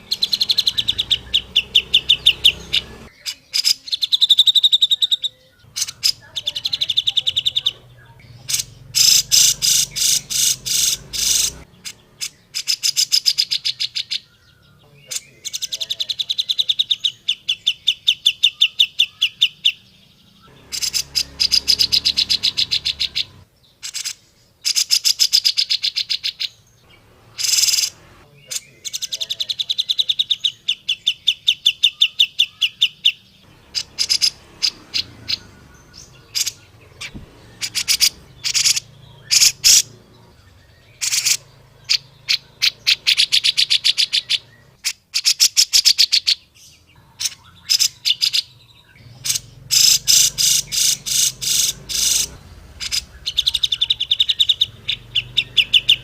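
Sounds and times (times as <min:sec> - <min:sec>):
bird chattering calls: 0:00.0 - 0:19.8, 0:20.4 - 0:56.0.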